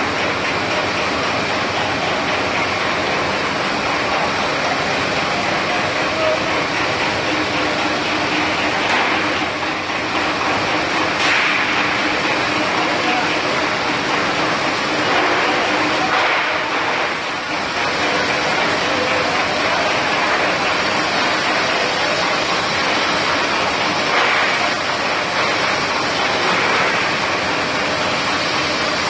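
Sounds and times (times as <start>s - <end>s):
fryer machinery rushing: 0.0s - 29.0s.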